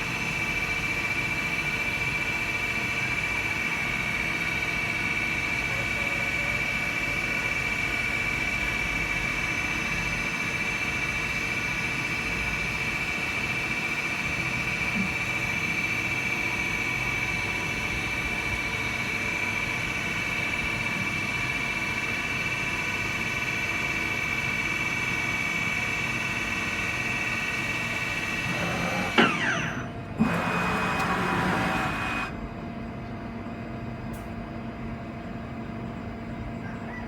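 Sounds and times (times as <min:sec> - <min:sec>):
milling machine whining: 0:00.0 - 0:32.6.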